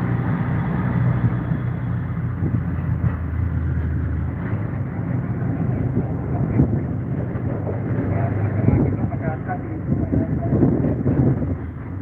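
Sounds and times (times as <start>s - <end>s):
vehicle running low rumble: 0.0s - 12.0s.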